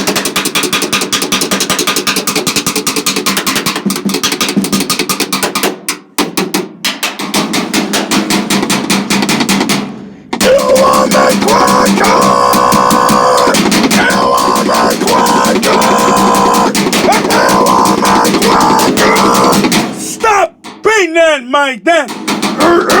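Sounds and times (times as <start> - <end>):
rapid drum roll: 0.0 - 5.7, 7.1 - 20.8, 22.1 - 23.0.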